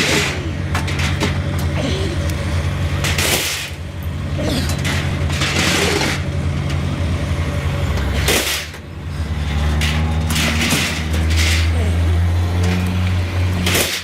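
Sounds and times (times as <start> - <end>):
scrap steel crashing: 0.0 - 7.2, 8.0 - 14.0
engine running: 0.0 - 14.0.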